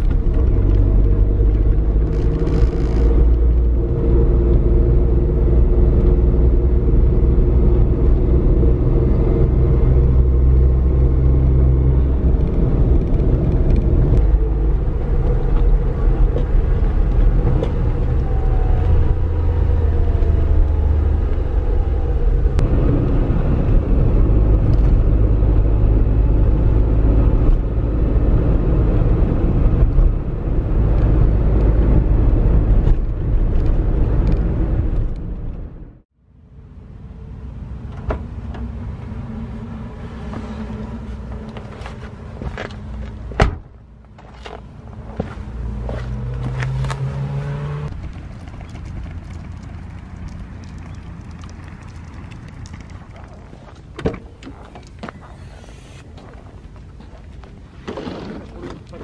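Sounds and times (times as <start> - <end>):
car engine hum: 0.0 - 57.6
road rumble: 0.0 - 59.0.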